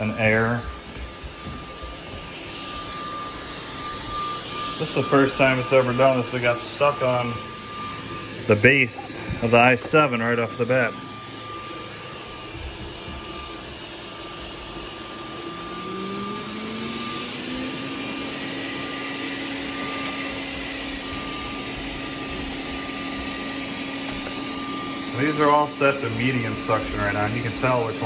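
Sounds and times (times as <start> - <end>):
motor whine rising in pitch: 0.0 - 28.0
vacuum motor and airflow hum: 0.0 - 28.0.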